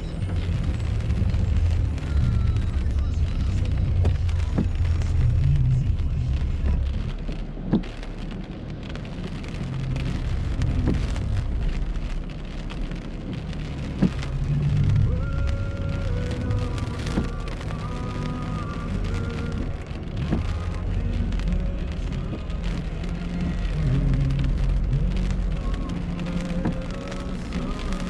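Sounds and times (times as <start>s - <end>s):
low engine rumble: 0.0s - 28.0s
rain on car windshield: 0.0s - 28.0s
tyres on wet road: 0.0s - 28.0s.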